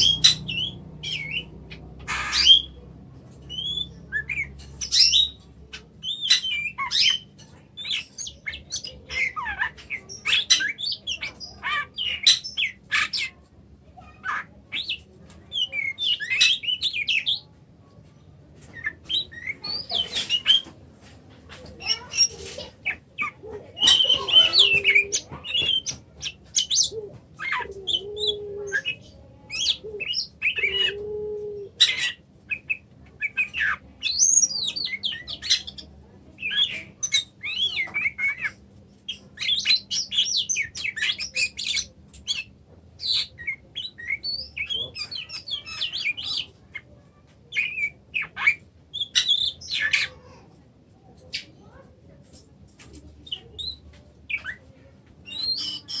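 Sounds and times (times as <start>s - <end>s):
songbird singing: 0.0s - 20.9s, 21.5s - 56.0s.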